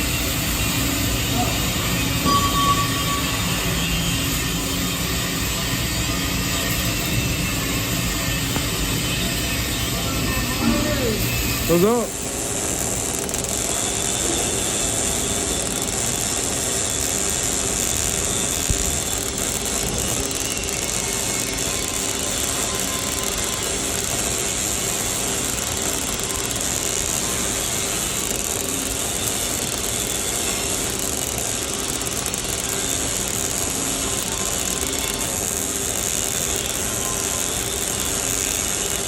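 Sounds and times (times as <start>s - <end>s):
welding arc crackling: 0.0s - 39.0s.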